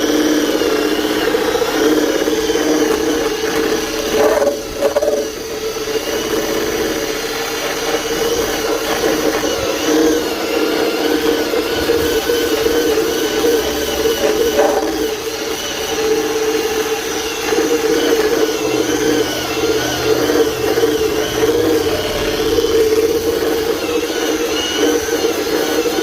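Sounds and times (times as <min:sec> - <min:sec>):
drum sander motor whining: 0:00.0 - 0:26.0.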